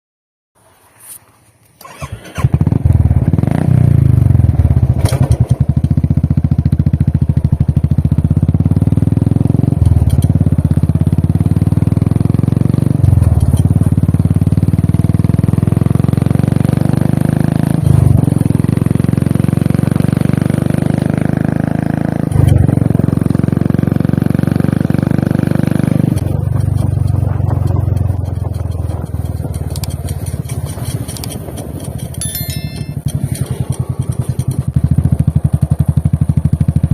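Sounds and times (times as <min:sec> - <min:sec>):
motorcycle engine and exhaust: 0:01.8 - 0:36.9.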